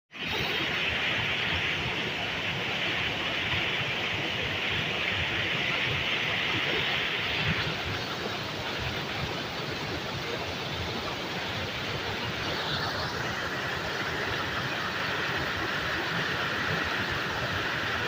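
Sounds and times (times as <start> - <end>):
waterfall roaring: 0.2 - 18.0.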